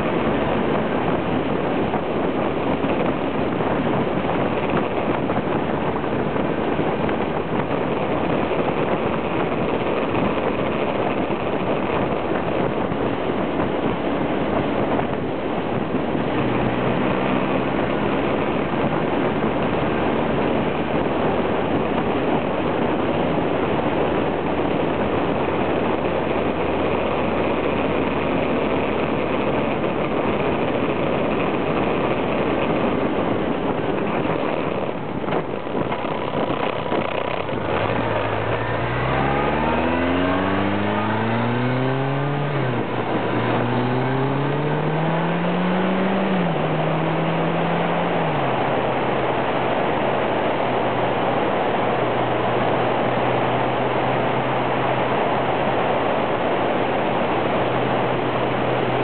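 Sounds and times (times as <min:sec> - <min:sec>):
heavy wind rush: 0:00.0 - 0:59.0
motorcycle engine accelerating: 0:00.0 - 0:59.0.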